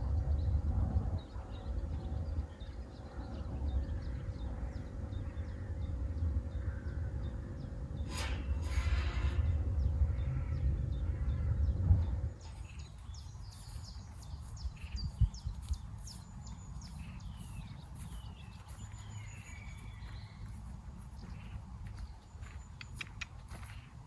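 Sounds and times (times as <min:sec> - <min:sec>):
low rumble: 0:00.0 - 0:21.0
birds chirping and singing: 0:00.2 - 0:24.0.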